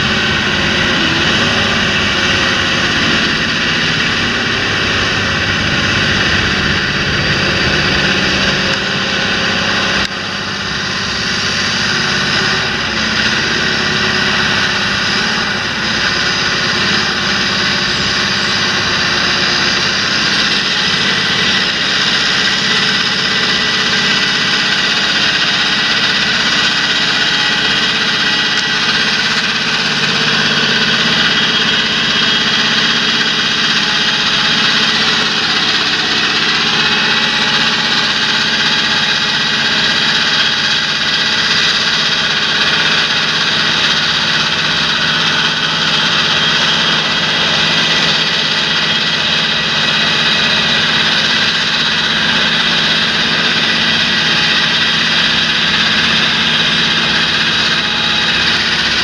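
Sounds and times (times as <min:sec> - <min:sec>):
high whine: 0:00.0 - 0:59.0
tractor diesel engine running: 0:00.0 - 0:59.0.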